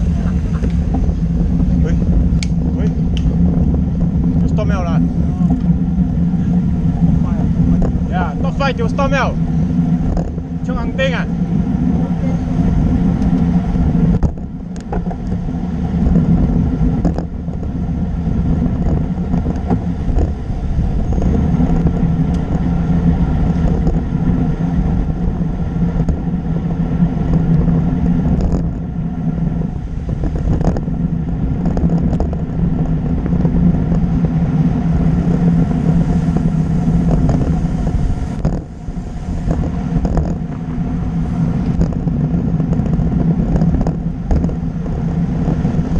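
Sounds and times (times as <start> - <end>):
bike tyre noise on asphalt: 0.0 - 45.9
steady low hum: 0.0 - 45.9
wind rushing over microphone: 0.0 - 45.9.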